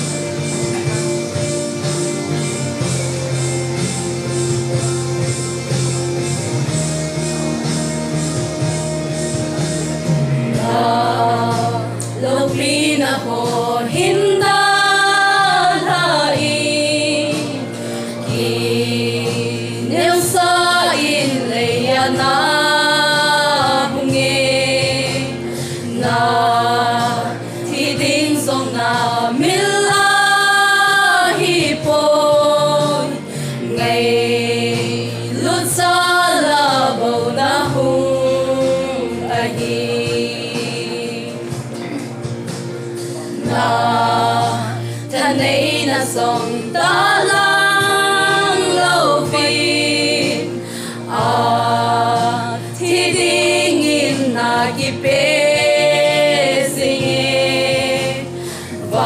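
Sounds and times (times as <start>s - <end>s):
instrumental backing: 0.0s - 59.0s
women singing gospel: 10.4s - 41.8s, 43.0s - 59.0s.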